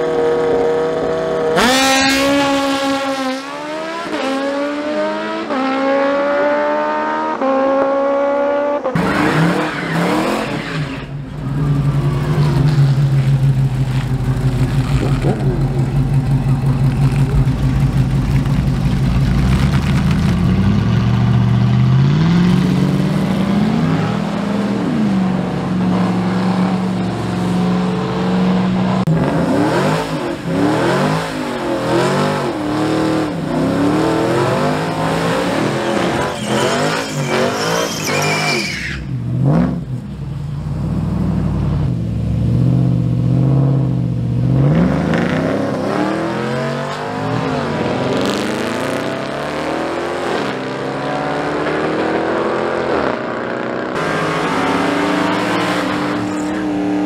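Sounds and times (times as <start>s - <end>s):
drag racing engines revving: 0.0s - 40.1s, 42.8s - 57.0s.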